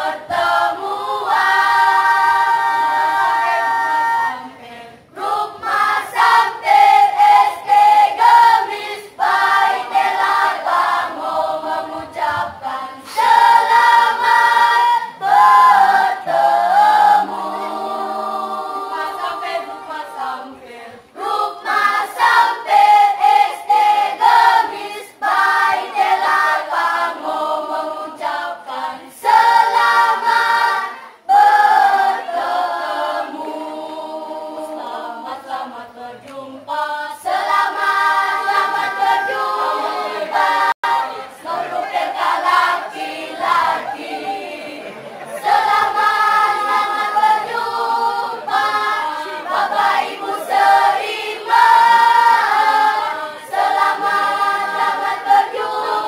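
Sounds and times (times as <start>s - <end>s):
children's choir singing unaccompanied: 0.0s - 56.0s.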